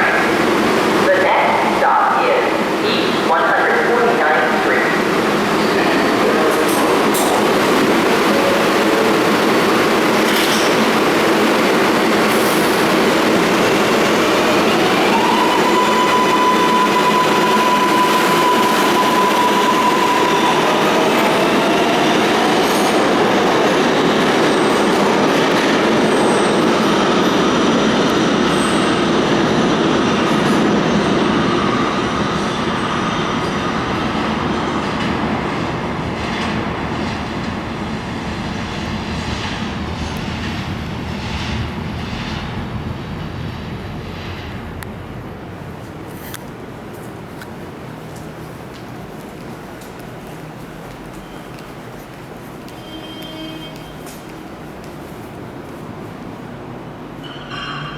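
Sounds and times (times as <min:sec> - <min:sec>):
train wheel and rail noise: 0:00.0 - 0:57.9.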